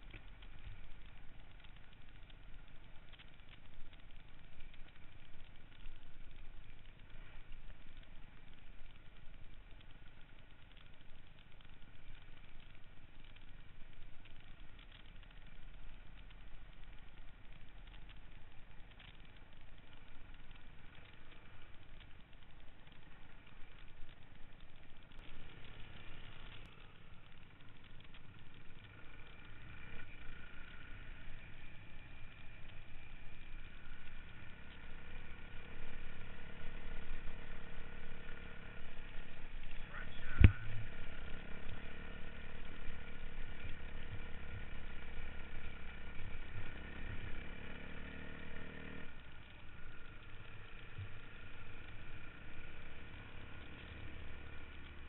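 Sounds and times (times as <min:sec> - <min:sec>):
motorcycle engines running: 0:00.0 - 0:55.0.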